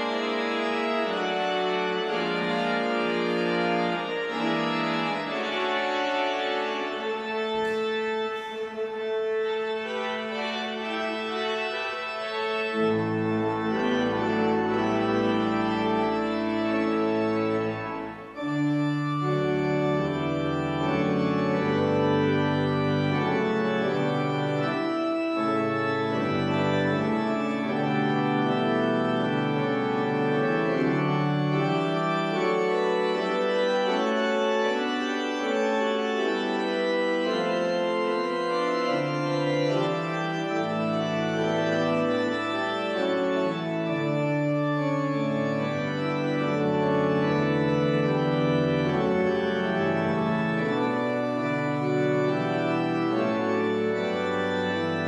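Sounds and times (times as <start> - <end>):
church organ playing chords: 0.0 - 55.0.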